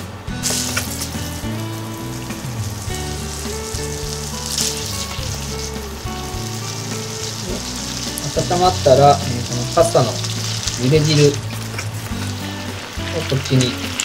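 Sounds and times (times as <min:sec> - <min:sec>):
bacon sizzling in a frying pan: 0:00.4 - 0:14.0.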